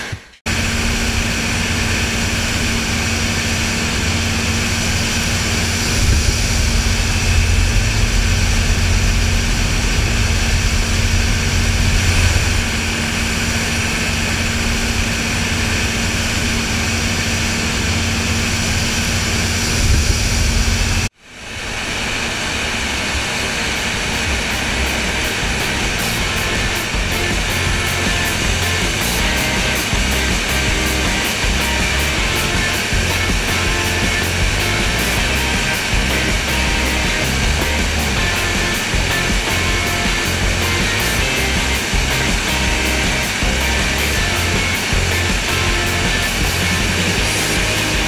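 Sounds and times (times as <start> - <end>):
combine harvester running: 0.5 - 48.0.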